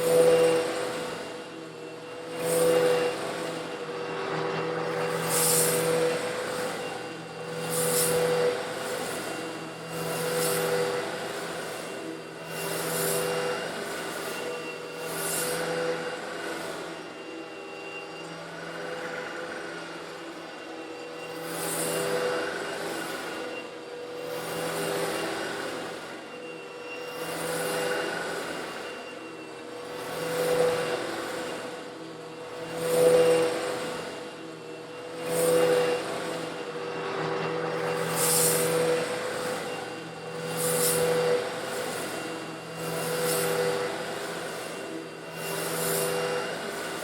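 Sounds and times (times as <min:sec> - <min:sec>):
vacuum cleaner motor whining: 0:00.0 - 0:47.0.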